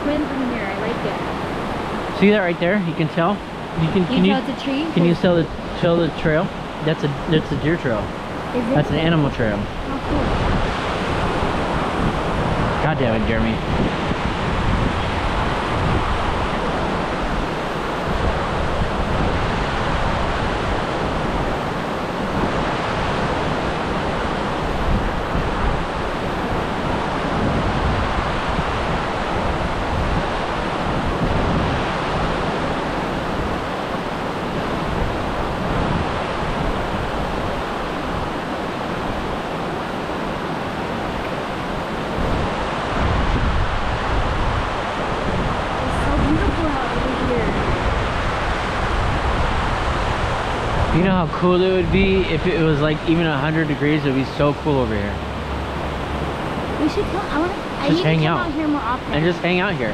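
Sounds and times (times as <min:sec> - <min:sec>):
flowing water rushing: 0:00.0 - 0:59.9
wind buffeting microphone: 0:00.0 - 0:59.9.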